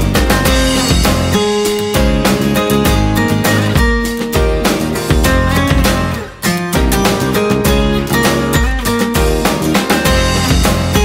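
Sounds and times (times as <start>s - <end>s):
strummed guitar music: 0.0s - 11.0s.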